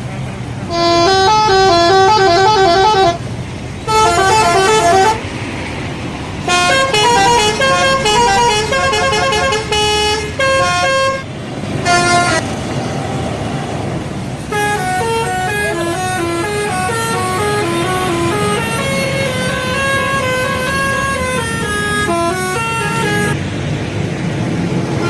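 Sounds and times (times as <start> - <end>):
steady background noise: 0.0 - 25.0
multi-tone bus horn melody: 0.6 - 5.6, 6.4 - 13.2, 14.4 - 23.4.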